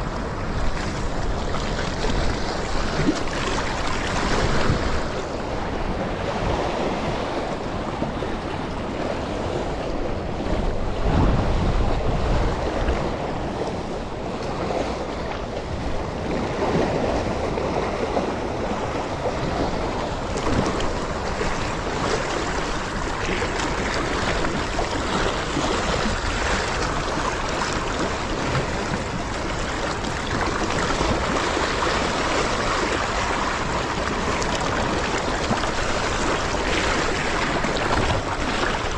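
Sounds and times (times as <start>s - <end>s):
waves splashing over rock: 0.0s - 38.9s
wind buffeting microphone: 0.0s - 38.9s.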